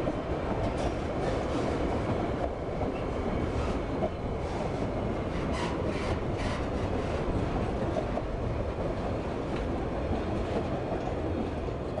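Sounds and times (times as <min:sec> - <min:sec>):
steel wheels rumbling on rails: 0:00.0 - 0:12.0.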